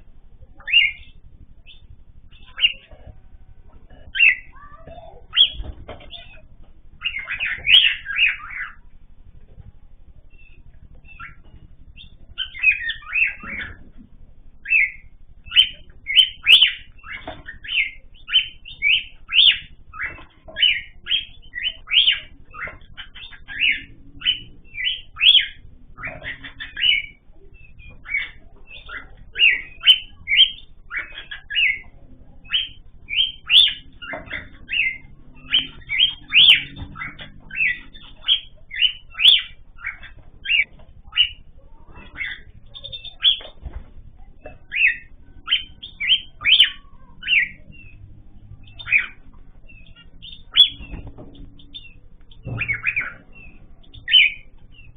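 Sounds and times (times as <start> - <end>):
cage birds chirping: 0.0 - 54.9.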